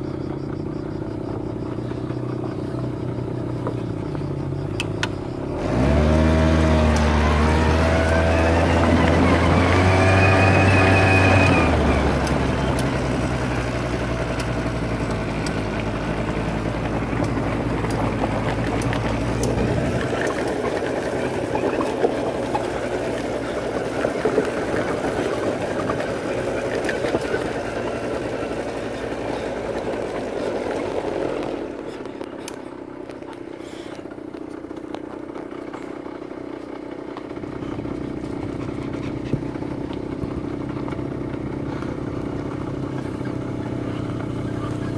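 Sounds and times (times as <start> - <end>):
quad bike engine running: 0.0 - 44.9.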